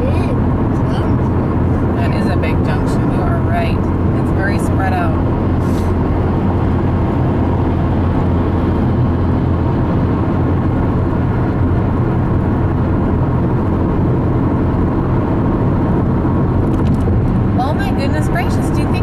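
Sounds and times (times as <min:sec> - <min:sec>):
car road noise from inside cabin: 0:00.0 - 0:19.0.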